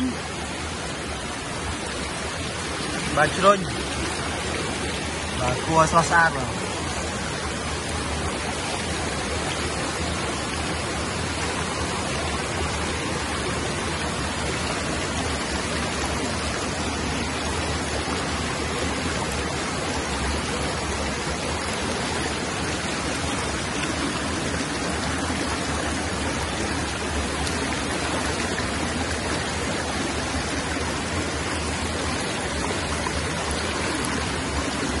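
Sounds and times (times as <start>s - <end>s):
water rushing through rapids: 0.0s - 35.0s.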